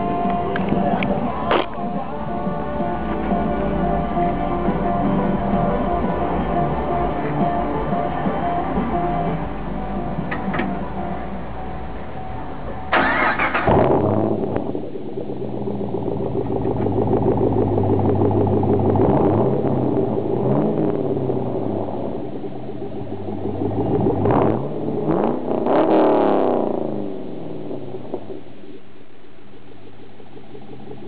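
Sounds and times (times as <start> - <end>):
car engine revving deep exhaust: 0.0 - 31.0.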